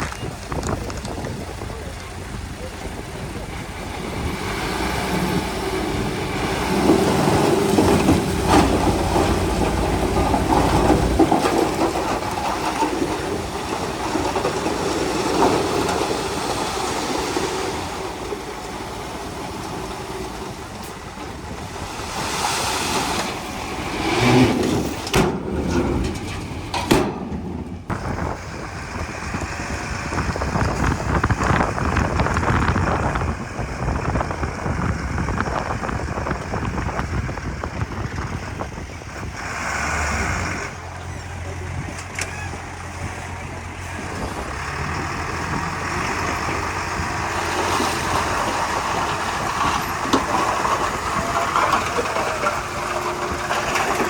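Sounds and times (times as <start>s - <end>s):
steel tracks clanking: 0.0s - 29.1s, 35.2s - 54.0s
diesel engine under load: 0.0s - 54.0s.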